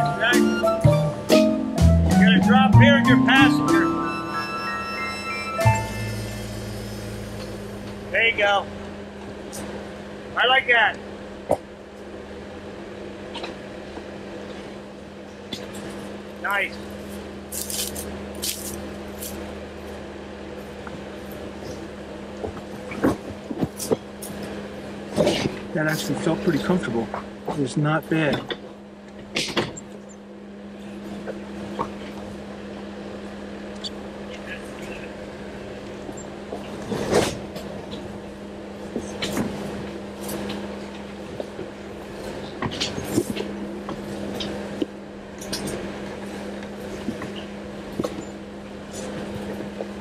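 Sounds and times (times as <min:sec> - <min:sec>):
off-road vehicle engine humming: 0:00.0 - 0:50.0.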